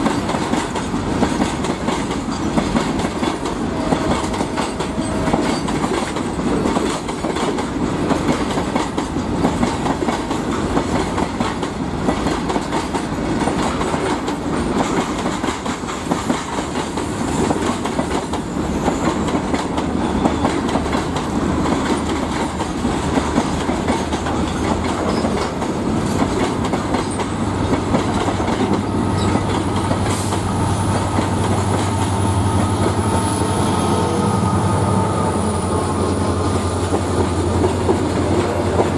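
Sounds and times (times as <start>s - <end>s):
diesel locomotive engine drone: 0.0s - 14.5s, 17.0s - 38.9s
train wheels clattering: 0.0s - 34.3s, 35.4s - 38.9s.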